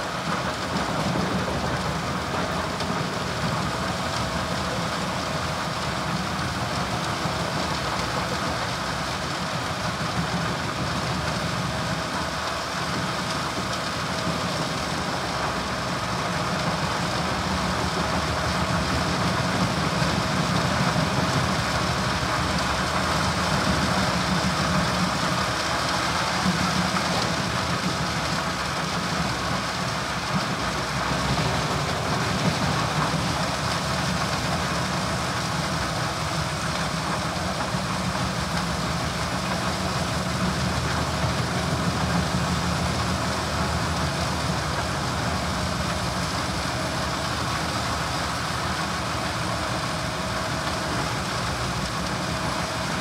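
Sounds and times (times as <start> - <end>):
tractor engine running: 0.0 - 53.0
wood chipper chipping logs: 0.0 - 53.0.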